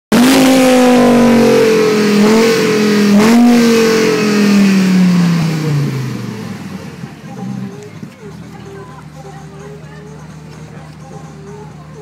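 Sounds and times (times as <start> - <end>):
car engine revving: 0.1 - 11.5.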